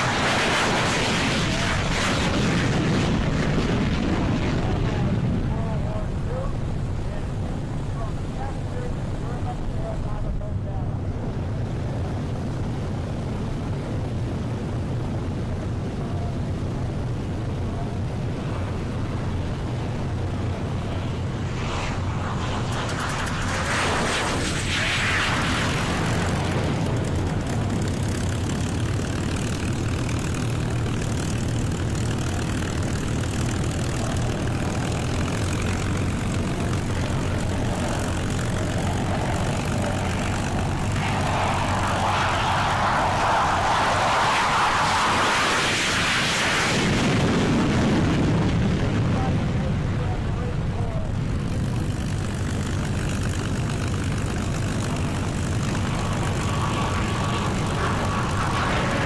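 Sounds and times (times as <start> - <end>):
propeller plane engine running: 0.0 - 59.0
rush of noise: 0.0 - 59.0.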